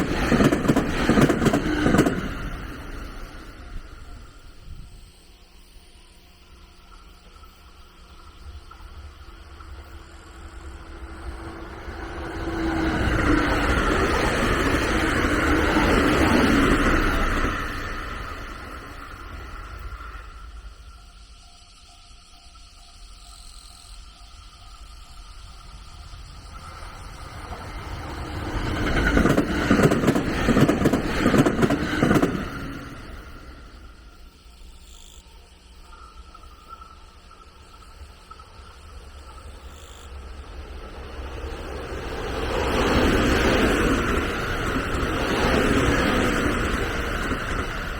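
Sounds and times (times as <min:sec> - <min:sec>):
train passing rumble: 0:00.0 - 0:47.9.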